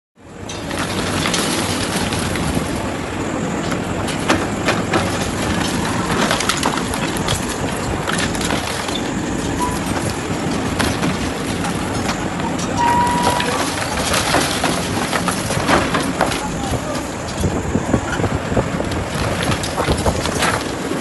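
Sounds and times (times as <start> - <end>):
excavator diesel engine running: 0.2 - 21.0.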